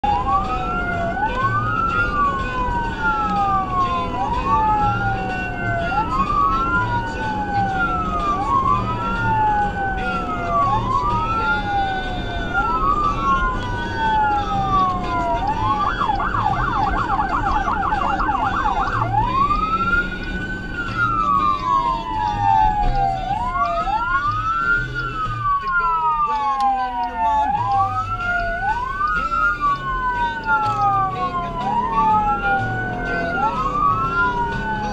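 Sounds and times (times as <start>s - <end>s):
electronic siren wailing and yelping: 0.0s - 34.9s.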